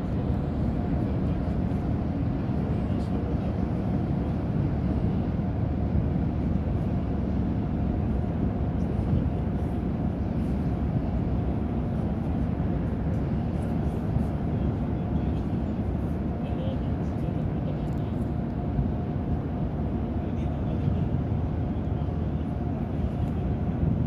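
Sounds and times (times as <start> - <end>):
boat engines rumbling: 0.0 - 24.0.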